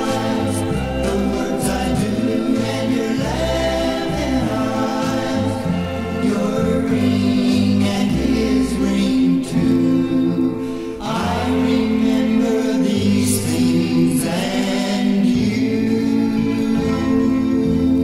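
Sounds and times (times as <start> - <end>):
pop record with voices singing: 0.0 - 18.0.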